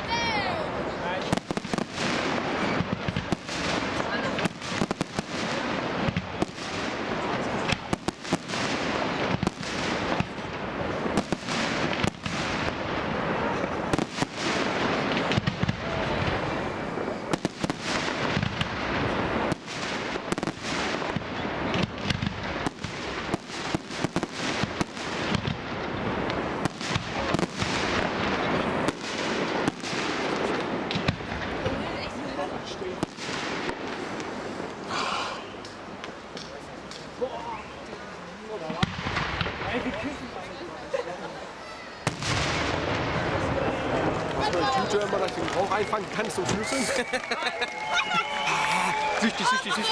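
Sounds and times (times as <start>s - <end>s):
firework crackling: 0.0s - 49.9s.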